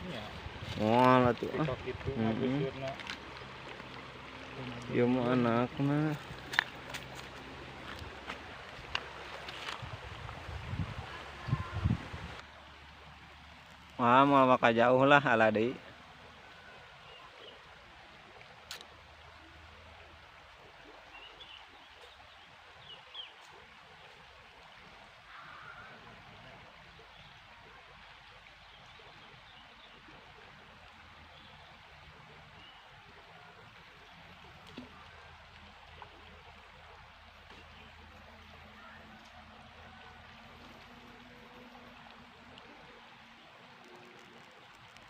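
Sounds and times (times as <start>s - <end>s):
faint running water: 0.0s - 45.0s.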